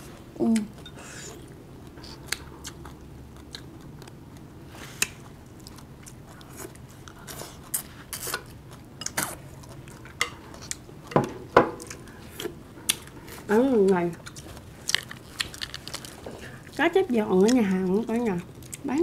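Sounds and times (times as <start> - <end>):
people chewing food: 0.0 - 19.0.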